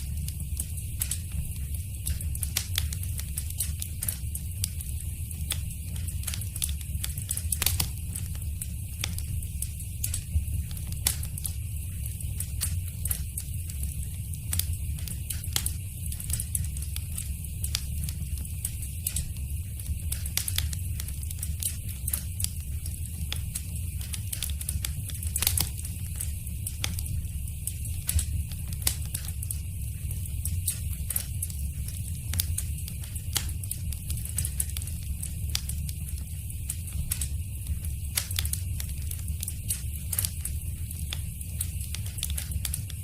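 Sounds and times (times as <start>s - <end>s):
fire crackling and popping: 0.0s - 43.0s
low rumble of flames: 0.0s - 43.0s.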